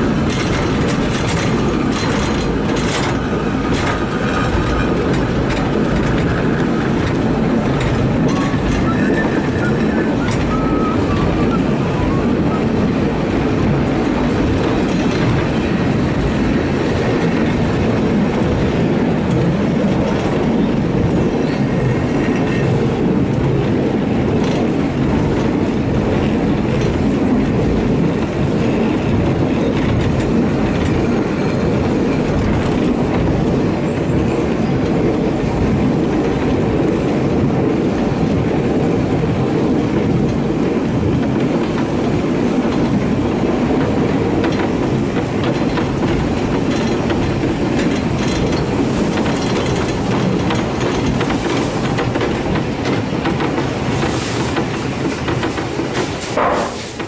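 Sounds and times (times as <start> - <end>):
wheels rumbling on rails: 0.0 - 57.0.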